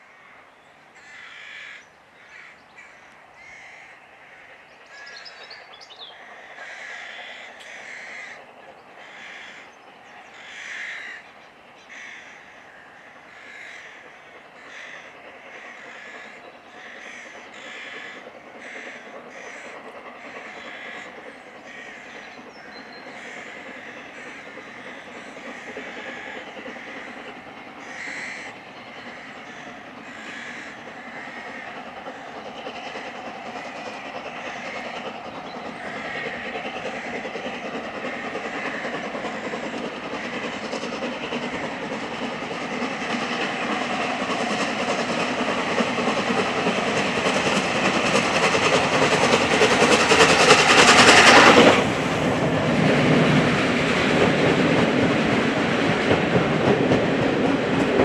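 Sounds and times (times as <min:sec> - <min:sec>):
coaches running on rails: 0:00.0 - 0:58.0
steam train passing: 0:00.0 - 0:58.0.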